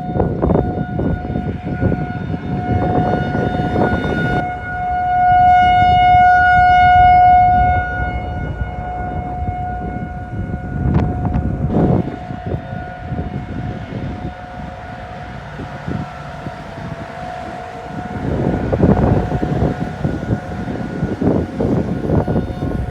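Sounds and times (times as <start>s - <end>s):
low rumbling noise: 0.0s - 22.9s
tornado siren steady tone: 0.0s - 22.9s.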